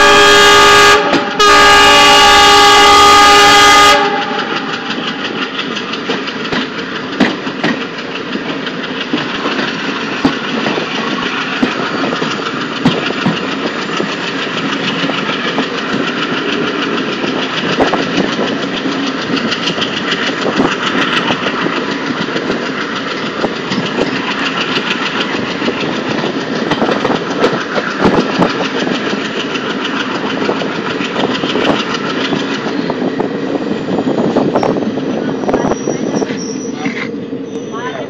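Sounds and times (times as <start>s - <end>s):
train running rumble: 0.0s - 38.0s
train wheel clicks and knocks: 1.0s - 1.4s, 4.1s - 35.0s.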